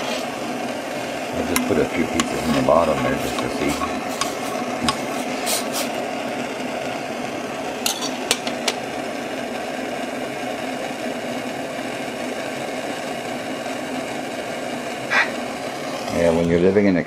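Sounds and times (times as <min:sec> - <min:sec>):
fire burning: 0:00.0 - 0:17.0
fire crackles: 0:00.0 - 0:17.0.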